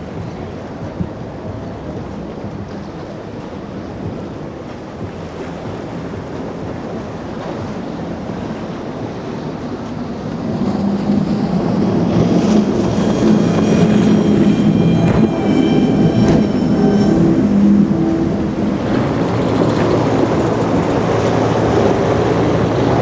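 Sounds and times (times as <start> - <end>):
boat engines droning: 0.0 - 23.0
surf: 0.0 - 23.0
wind on microphone: 0.0 - 23.0.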